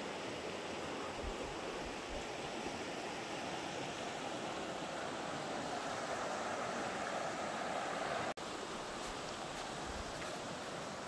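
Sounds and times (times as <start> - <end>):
river flowing over rocks: 0.0 - 11.0.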